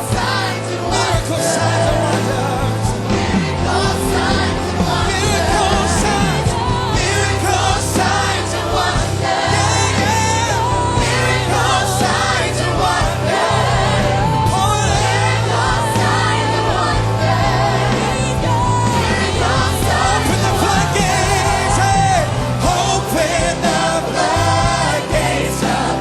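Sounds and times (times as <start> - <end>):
band playing gospel music: 0.0 - 26.0
choir and congregation singing: 0.0 - 26.0
sustained bass notes: 0.0 - 26.0.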